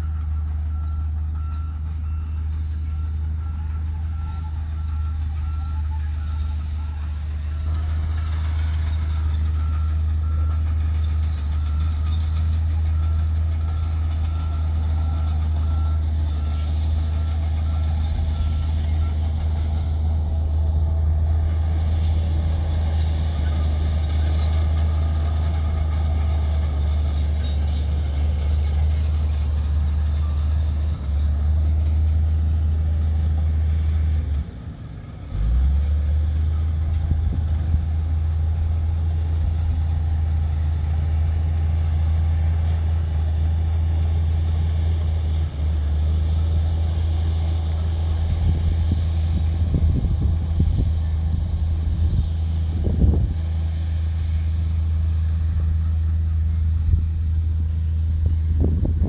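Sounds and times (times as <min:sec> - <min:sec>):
diesel engine low drone: 0:00.0 - 0:59.0.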